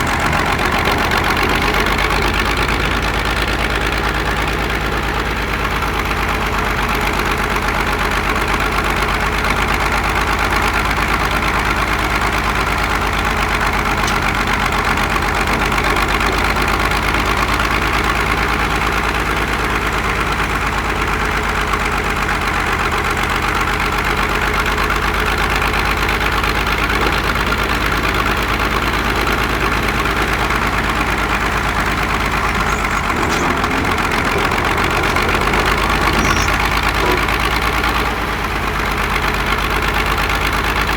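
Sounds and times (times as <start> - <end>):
large engine idling: 0.0 - 40.9.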